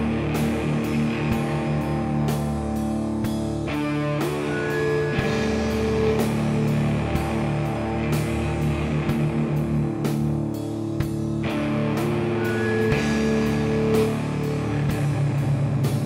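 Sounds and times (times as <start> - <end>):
drum kit steady beat: 0.0 - 16.0
guitar droning notes: 0.0 - 16.0.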